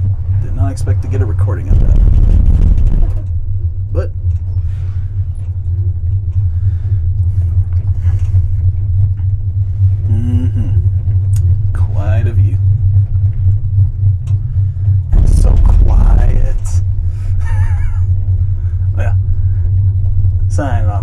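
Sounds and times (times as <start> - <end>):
voices in cabin: 0.0 - 2.2, 2.8 - 21.0
tram cabin rumble on cable: 0.0 - 21.0.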